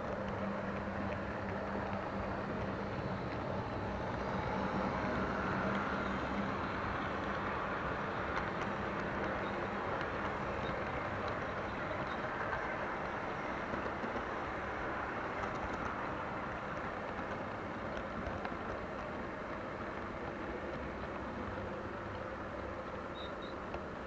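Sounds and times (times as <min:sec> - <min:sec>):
faint clicks: 0:00.0 - 0:24.0
model train whirring: 0:00.0 - 0:24.0.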